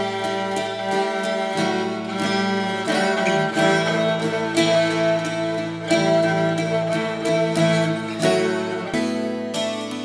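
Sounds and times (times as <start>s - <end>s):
plucked string instrument: 0.0s - 10.0s.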